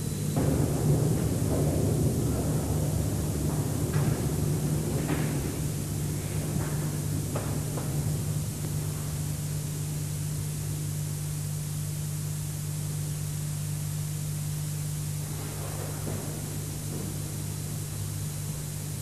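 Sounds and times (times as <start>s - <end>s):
low electrical hum: 0.0s - 19.0s
steady hiss: 0.0s - 19.0s.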